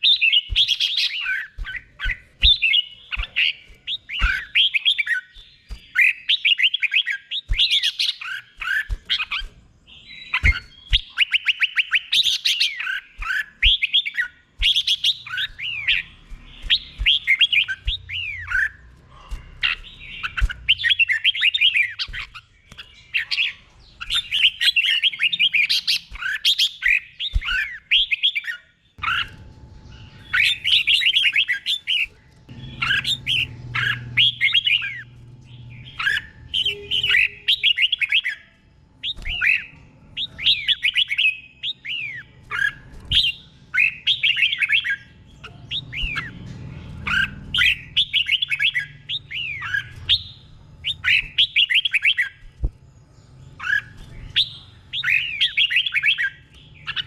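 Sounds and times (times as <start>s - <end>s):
bird whistled song: 0.0s - 57.0s.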